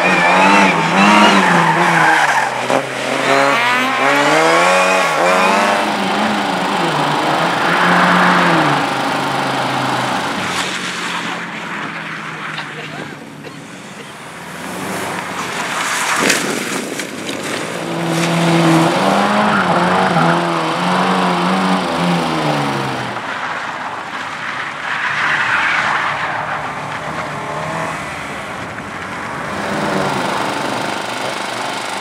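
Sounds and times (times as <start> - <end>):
racing car engine revving: 0.0 - 12.9, 17.5 - 32.0
tyres skidding: 0.0 - 32.0.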